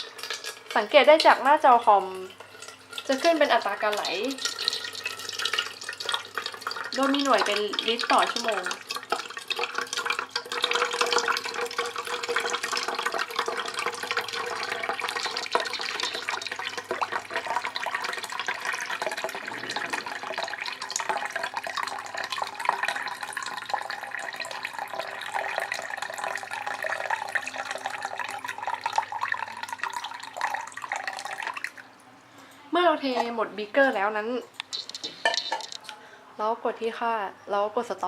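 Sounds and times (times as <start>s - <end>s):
water pouring and splashing: 0.0s - 31.8s.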